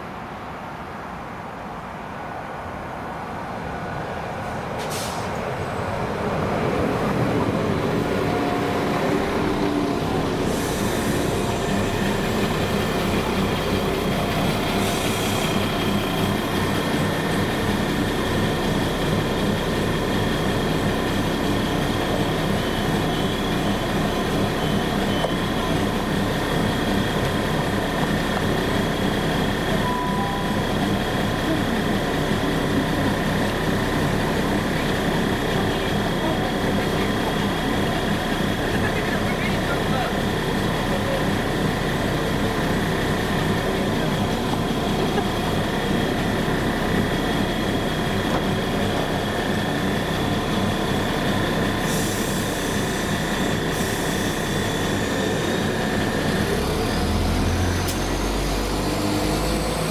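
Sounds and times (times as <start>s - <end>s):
diesel train engines idling: 3.7s - 59.9s.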